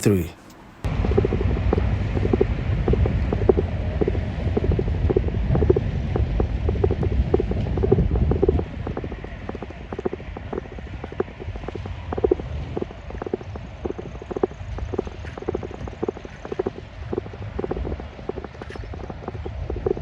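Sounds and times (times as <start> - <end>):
raindrop clicks: 0.8 - 20.0
wind buffeting microphone: 0.9 - 20.0.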